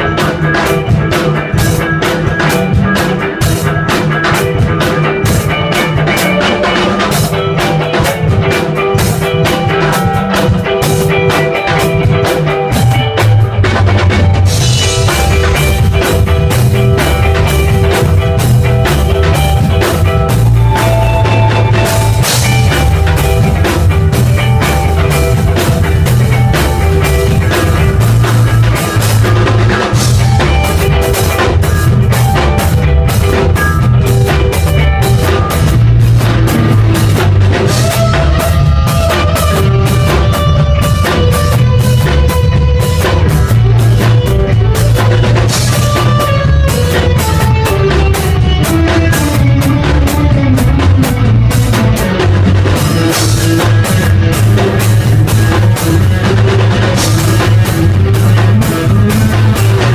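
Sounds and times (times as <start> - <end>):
drum beat: 0.0 - 59.9
electric guitar: 0.0 - 59.9.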